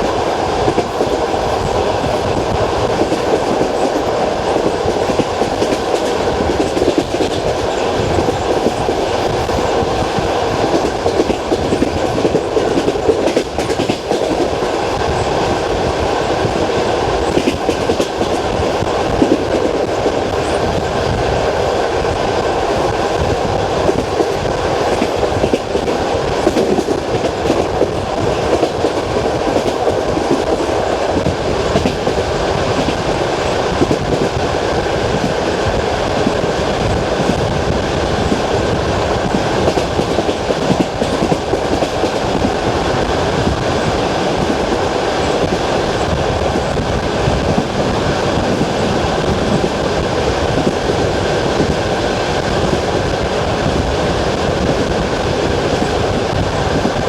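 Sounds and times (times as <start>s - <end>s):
train rolling rumble: 0.0s - 57.0s
train wheels clicking over rail joints: 0.6s - 21.2s, 23.2s - 34.4s, 35.0s - 53.0s.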